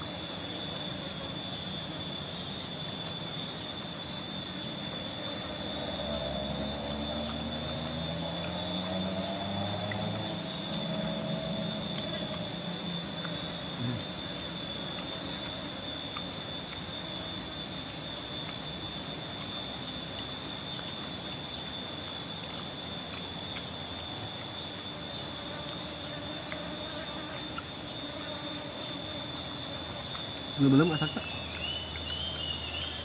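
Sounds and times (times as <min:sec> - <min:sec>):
insect chirping: 0:00.0 - 0:33.0
insect high-pitched whine: 0:00.0 - 0:33.0.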